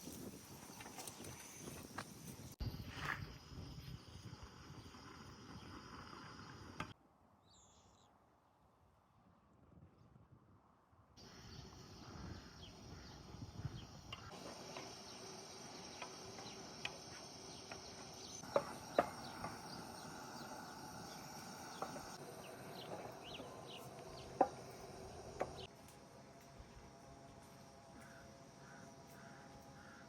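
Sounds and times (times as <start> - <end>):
insects chirping: 0.0 - 7.0, 11.2 - 30.0.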